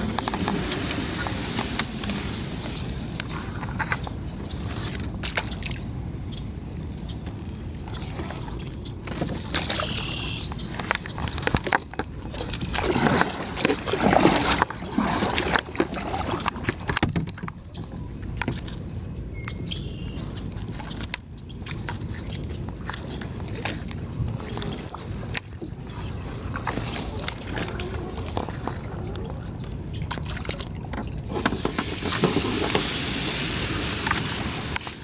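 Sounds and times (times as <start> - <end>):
kayak paddle splashing water: 0.0 - 5.8, 7.9 - 17.5, 20.2 - 35.0.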